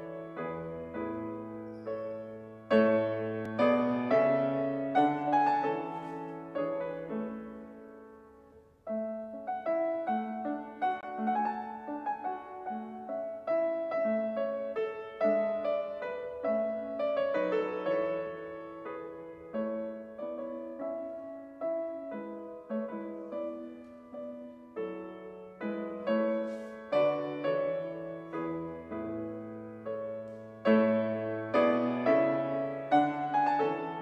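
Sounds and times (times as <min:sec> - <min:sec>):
solo grand piano classical music: 0:00.0 - 0:34.0.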